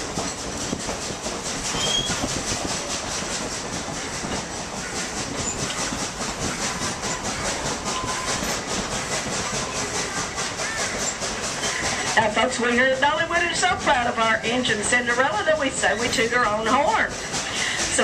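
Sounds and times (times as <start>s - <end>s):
steam locomotive wheel beat: 0.0s - 18.0s
train cars rumbling on track: 0.0s - 18.0s.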